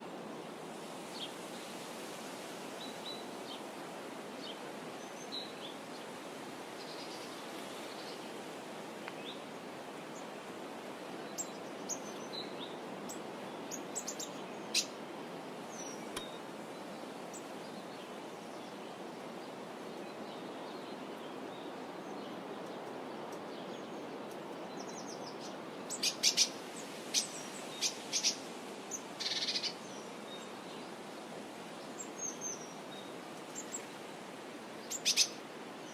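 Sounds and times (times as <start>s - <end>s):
steady outdoor hiss: 0.0s - 35.9s.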